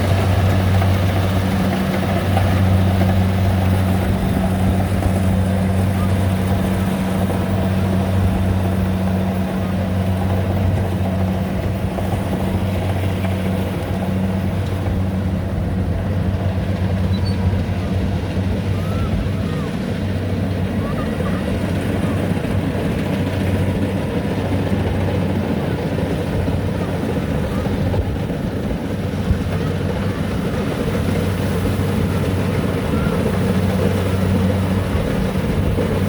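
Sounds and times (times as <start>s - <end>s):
combine harvester engine humming: 0.0s - 36.0s.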